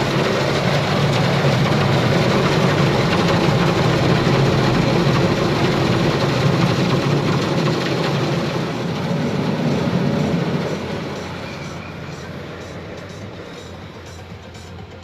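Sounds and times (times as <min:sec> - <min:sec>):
car wash machinery rushing: 0:00.0 - 0:15.0.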